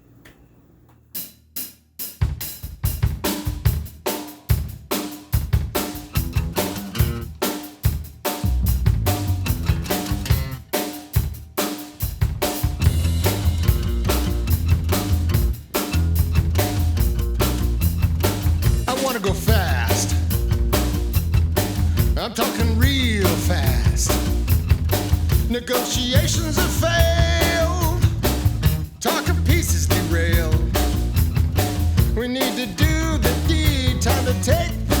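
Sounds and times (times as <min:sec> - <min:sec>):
instrumental rock music: 0:02.0 - 0:35.0
drum hits: 0:02.2 - 0:35.0.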